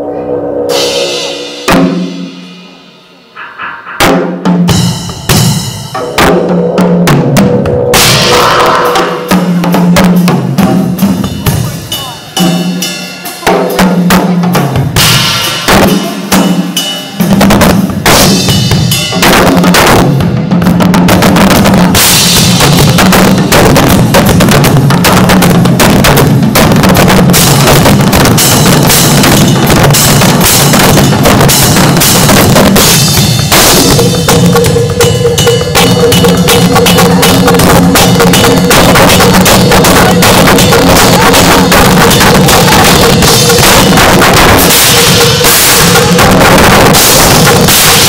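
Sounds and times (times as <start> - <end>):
cymbals: 0.0 - 48.0
drum kit solo: 0.0 - 48.0.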